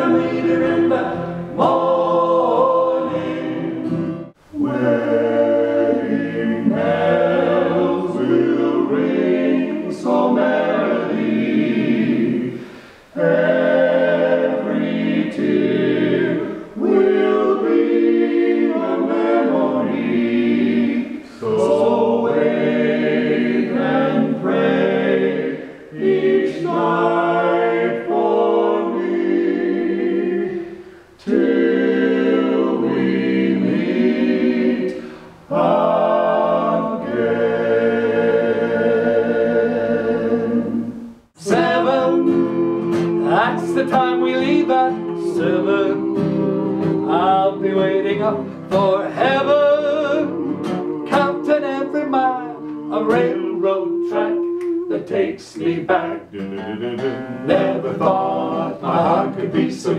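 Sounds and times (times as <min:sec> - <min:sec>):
male vocal quartet singing a cappella: 0:00.0 - 0:59.9.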